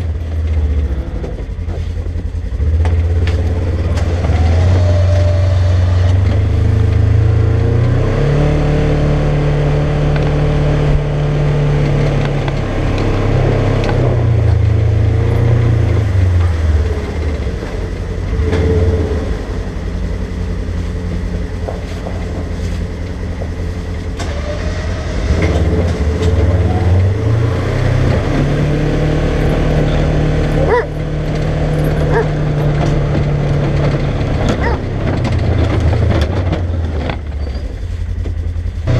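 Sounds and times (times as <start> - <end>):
engine revving under load: 0.0 - 38.9.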